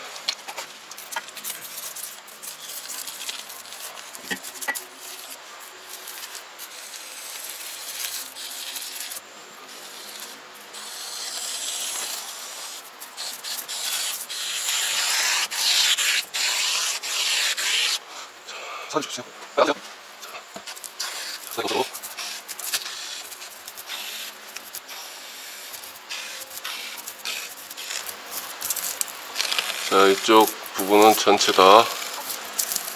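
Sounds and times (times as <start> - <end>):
foam gun spraying hiss: 1.0 - 18.3, 20.6 - 32.9.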